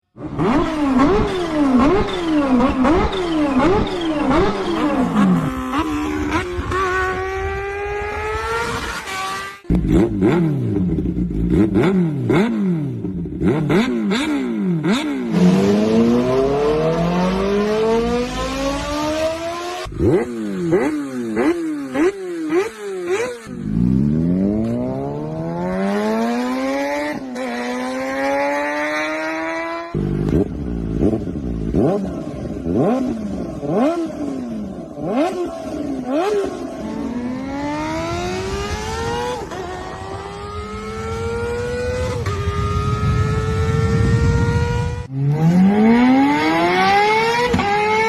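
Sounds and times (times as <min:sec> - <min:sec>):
motorcycle engines revving: 0:00.2 - 0:48.0.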